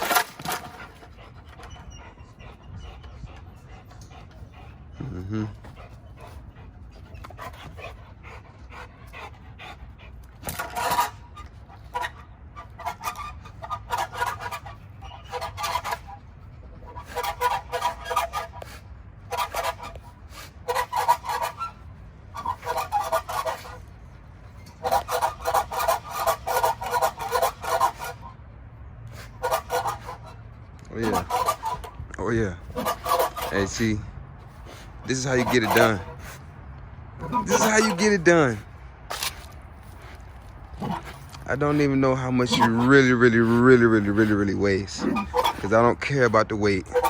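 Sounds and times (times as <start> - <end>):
dog panting hard: 0.0 - 47.0.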